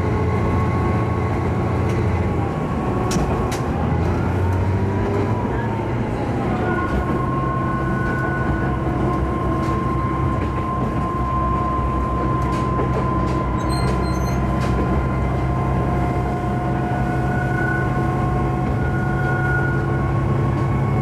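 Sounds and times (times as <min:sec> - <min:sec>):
railcar engine drone with whine: 0:00.0 - 0:21.0.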